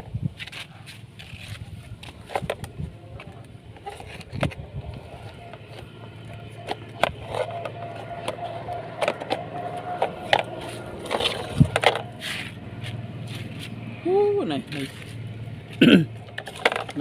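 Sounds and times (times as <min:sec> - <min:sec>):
excavator motor whining: 0:01.2 - 0:17.0.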